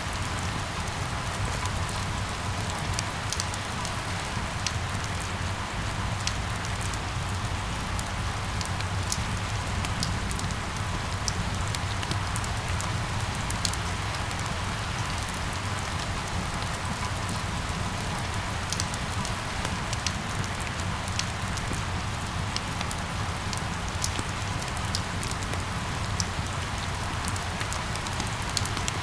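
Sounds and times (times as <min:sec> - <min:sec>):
steady rain falling: 0:00.0 - 0:29.0
raindrops tapping close by: 0:00.1 - 0:29.0.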